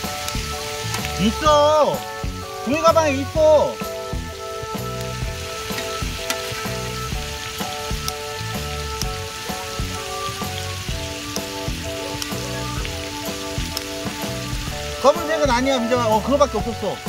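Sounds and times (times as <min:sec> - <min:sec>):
background music with steady beat: 0:00.0 - 0:17.0
pork belly sizzling: 0:00.0 - 0:17.0.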